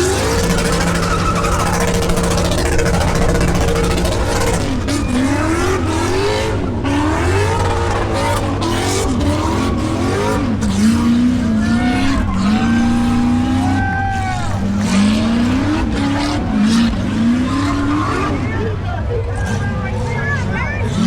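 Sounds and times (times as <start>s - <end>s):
car engine revving: 0.0s - 21.0s
spinning tyres squealing: 0.0s - 21.0s.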